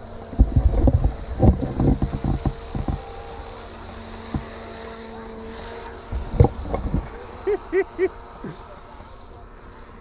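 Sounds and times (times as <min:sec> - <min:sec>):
model boat motor whine: 0:00.0 - 0:10.0.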